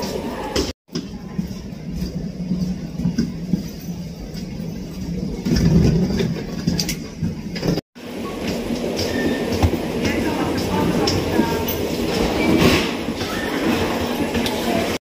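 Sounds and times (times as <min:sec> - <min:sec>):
luggage wheels rumbling: 0:00.0 - 0:15.0.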